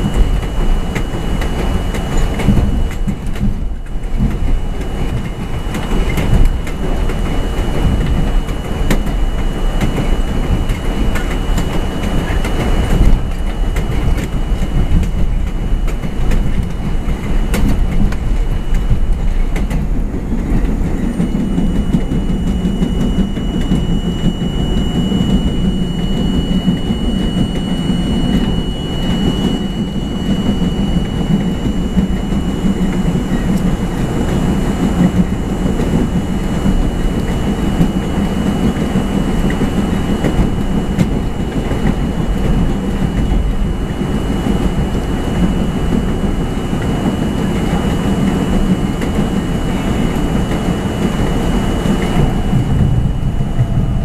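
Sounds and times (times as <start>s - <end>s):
subway train wheels rumbling: 0.0s - 54.0s
thin high whine: 0.0s - 54.0s.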